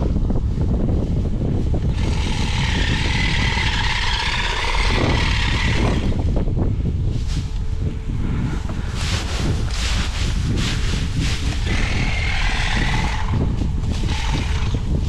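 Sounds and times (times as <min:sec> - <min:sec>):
wind buffeting microphone: 0:00.0 - 0:15.0
electric cutter whining: 0:01.8 - 0:06.5, 0:07.5 - 0:15.0.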